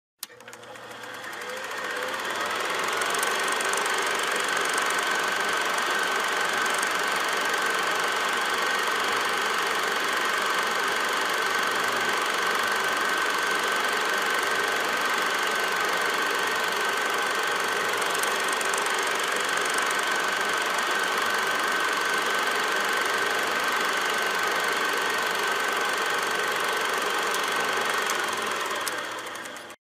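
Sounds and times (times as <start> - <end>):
film projector whirring: 0.2 - 29.8
high-pitched projector whine: 0.2 - 29.8.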